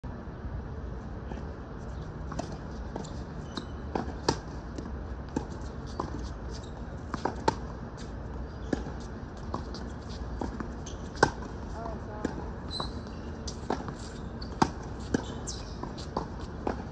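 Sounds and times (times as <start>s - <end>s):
tennis balls struck and bouncing: 2.2s - 16.9s.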